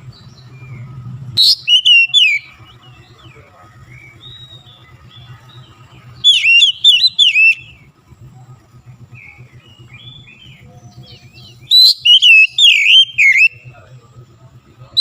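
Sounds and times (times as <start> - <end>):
bird singing whistled notes: 0.0 - 8.0, 9.0 - 13.8.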